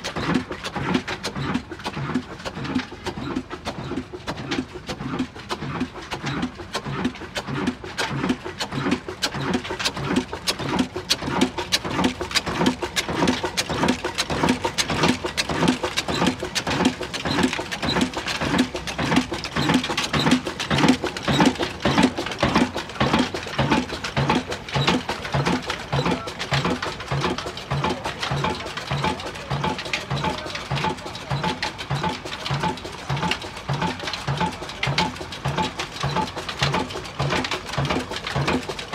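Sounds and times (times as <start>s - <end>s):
engine clicks: 0.0s - 38.9s.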